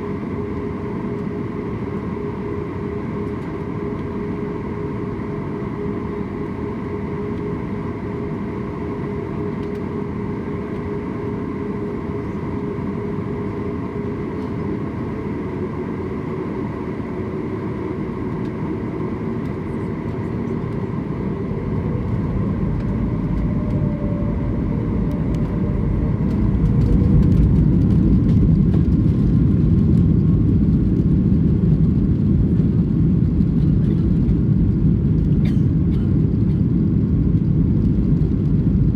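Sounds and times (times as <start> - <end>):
deep engine rumble: 0.0 - 38.9
jet engines humming in cabin: 0.0 - 38.9.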